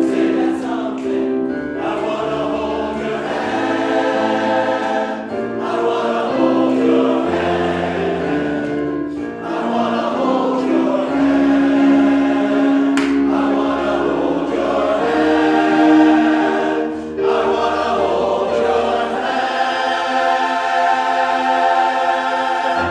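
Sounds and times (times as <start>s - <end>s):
men's chorus singing in harmony: 0.0s - 22.9s.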